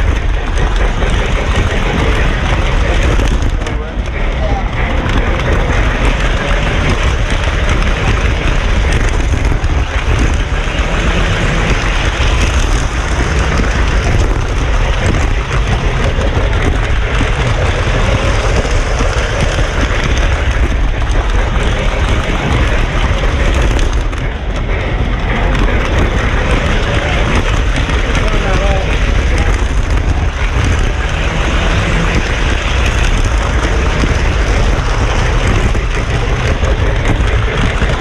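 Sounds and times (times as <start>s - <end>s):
model train rumbling on track: 0.0s - 38.0s.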